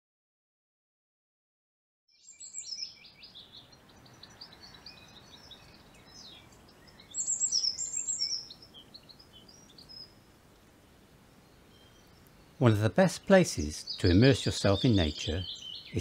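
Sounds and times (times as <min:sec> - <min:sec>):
songbirds singing: 0:02.1 - 0:16.0.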